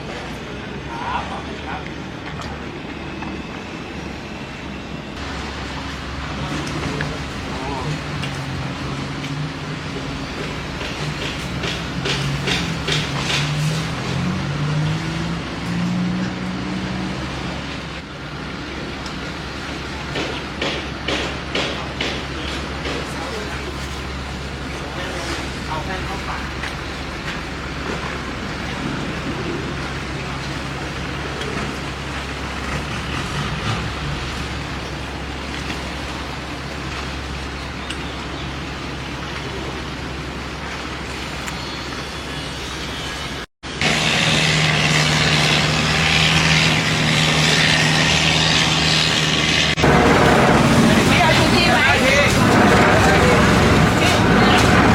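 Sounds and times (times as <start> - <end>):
engine humming: 0.0 - 54.9
rushing water: 0.0 - 54.9.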